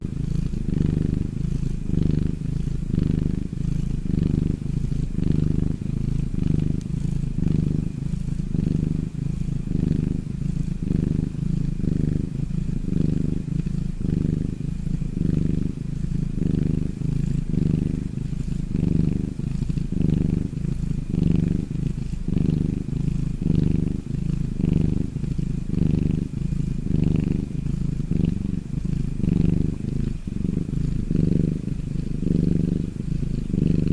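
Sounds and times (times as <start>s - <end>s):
cat snoring: 0.0s - 33.9s.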